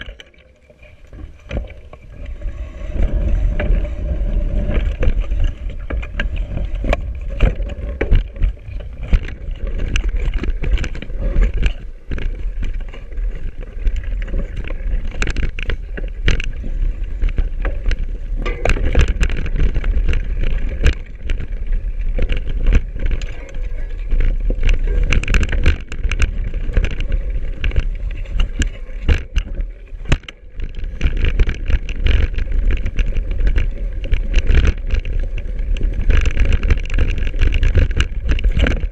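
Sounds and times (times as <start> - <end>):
bike rattling and knocking: 0.0 - 38.9
bike tyres rumbling on rough trail: 0.0 - 38.9.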